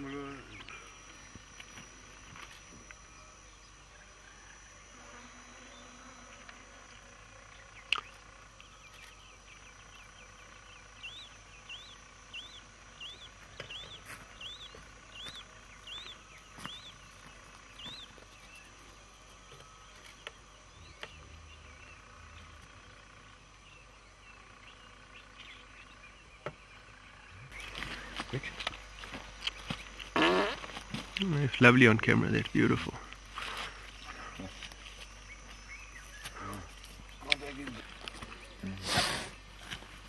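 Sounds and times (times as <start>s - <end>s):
birds chirping: 0.0s - 40.0s
faint high hum: 0.0s - 40.0s.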